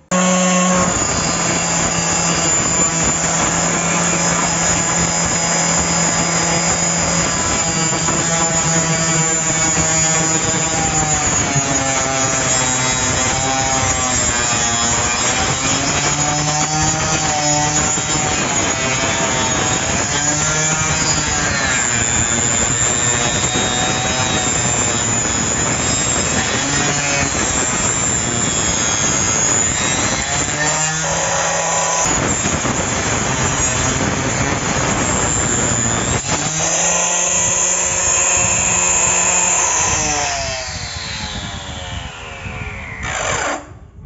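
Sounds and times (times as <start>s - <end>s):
circular saw cutting plywood: 0.0s - 44.0s
saw blade spinning down: 0.0s - 44.0s.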